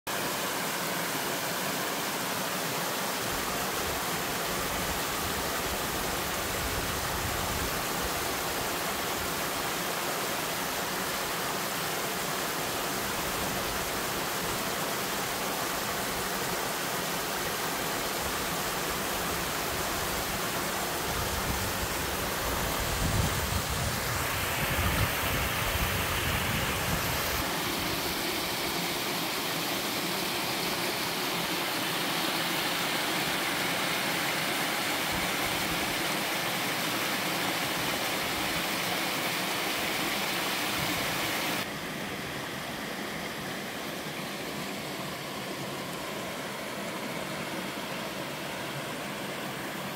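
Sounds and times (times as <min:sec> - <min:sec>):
stream water rushing over rocks: 0:00.1 - 0:49.9.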